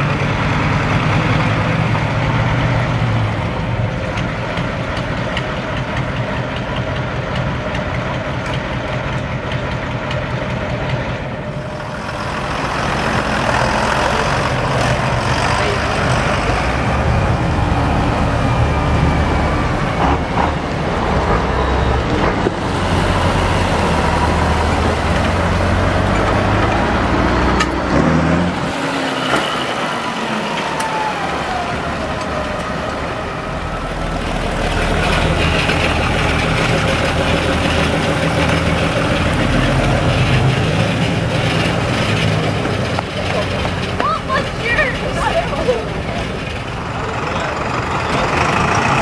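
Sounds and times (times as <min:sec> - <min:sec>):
tractor engines driving past: 0:00.0 - 0:49.0.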